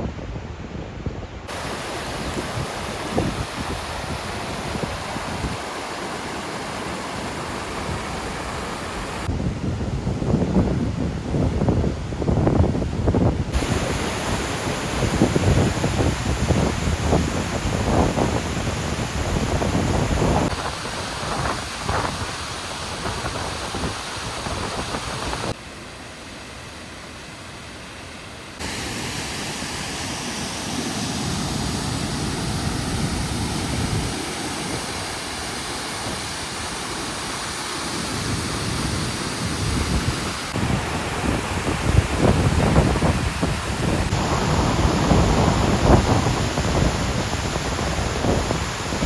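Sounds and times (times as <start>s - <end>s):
wind rumbling on microphone: 0.0s - 25.6s, 31.5s - 36.8s, 38.0s - 49.0s
waterfall roaring: 1.5s - 9.3s, 13.1s - 25.6s, 26.3s - 49.0s.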